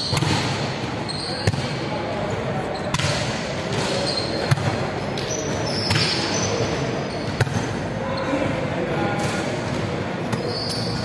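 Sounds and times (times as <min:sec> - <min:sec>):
players' voices: 0:00.8 - 0:11.0.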